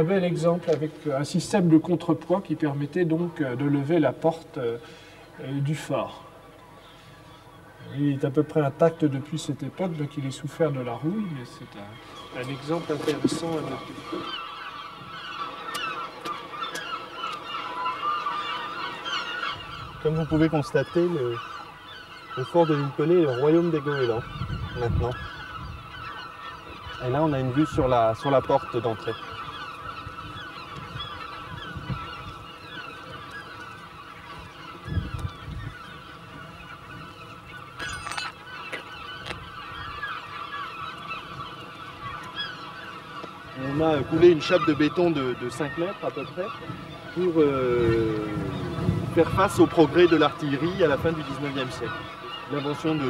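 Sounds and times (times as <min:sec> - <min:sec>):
gulls calling: 0:00.0 - 0:53.0.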